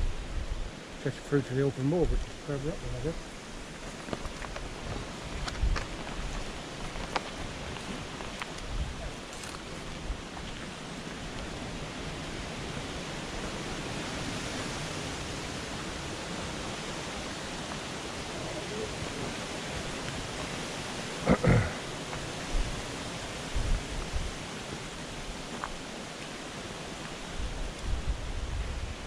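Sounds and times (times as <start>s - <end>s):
brook water flowing: 0.0s - 29.0s.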